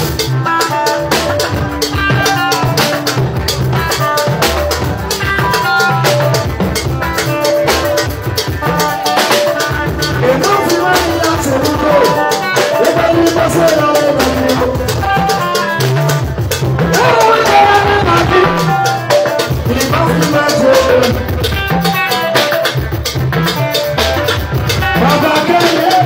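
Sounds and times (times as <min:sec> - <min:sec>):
drum kit and hand percussion: 0:00.0 - 0:26.0
live dance band music: 0:00.0 - 0:26.0.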